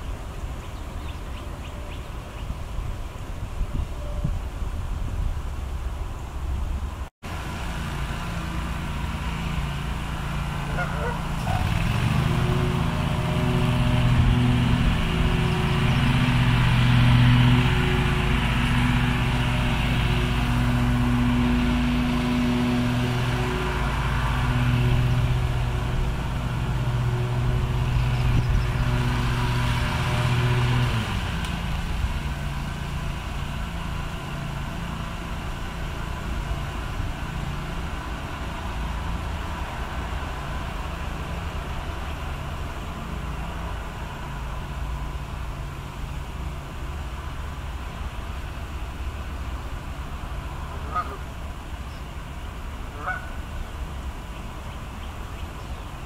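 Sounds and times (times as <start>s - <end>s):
motor engine humming: 5.6s - 56.0s.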